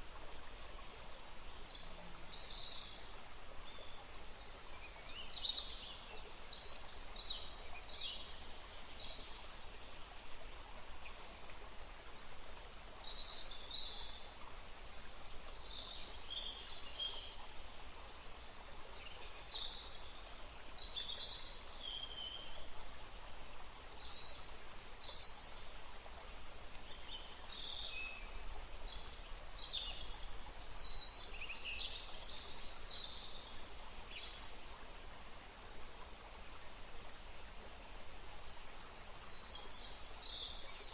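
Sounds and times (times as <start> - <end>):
running water: 0.0 - 40.9
wind in trees: 0.0 - 40.9.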